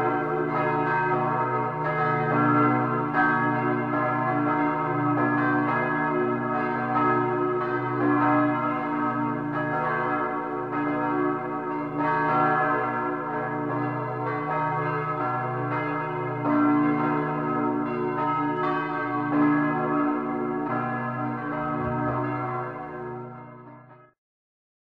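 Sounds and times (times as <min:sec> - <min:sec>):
church bells ringing: 0:00.0 - 0:24.2.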